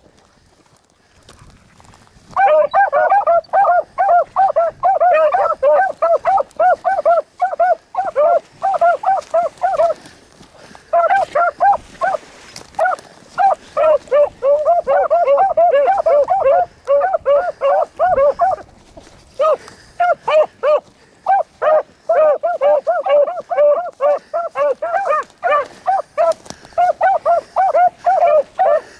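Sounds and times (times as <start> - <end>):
hounds baying: 2.3 - 18.7, 19.3 - 28.9.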